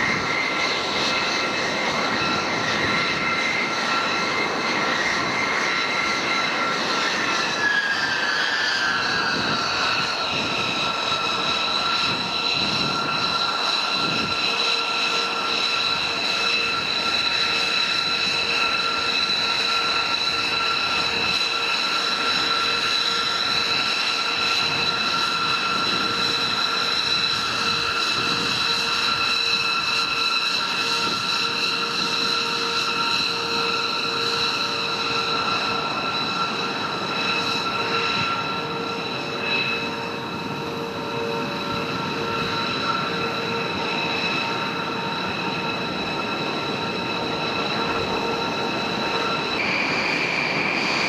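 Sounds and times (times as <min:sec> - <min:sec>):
jet engine rushing roar: 0:00.0 - 0:51.0
jet engine whine: 0:00.0 - 0:51.0.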